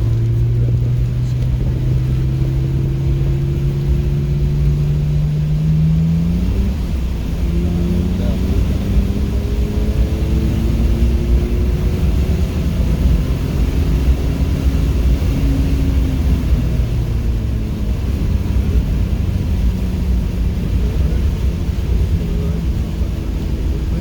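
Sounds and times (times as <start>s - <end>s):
car engine revving: 0.0s - 24.0s
road and tyre rumble: 0.0s - 24.0s.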